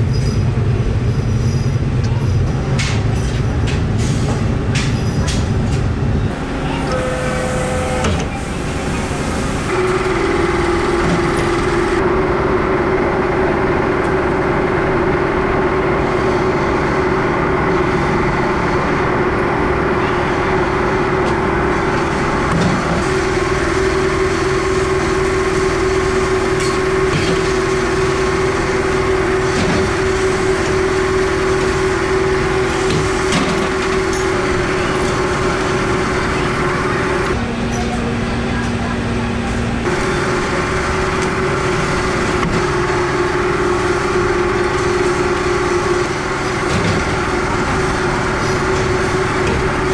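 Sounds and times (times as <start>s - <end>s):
machine motor hum: 6.3s - 37.4s, 39.8s - 49.9s.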